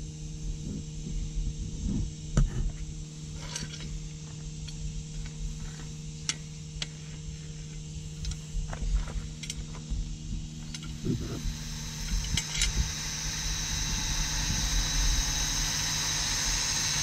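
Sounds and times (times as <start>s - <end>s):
low electric hum: 0.0s - 17.0s.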